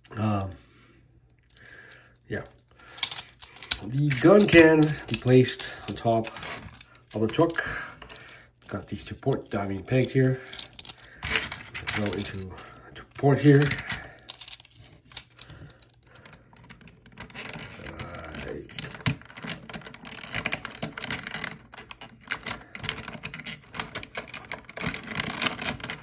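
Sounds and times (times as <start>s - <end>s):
hard plastic toy clicking: 1.5s - 8.4s, 9.3s - 26.0s.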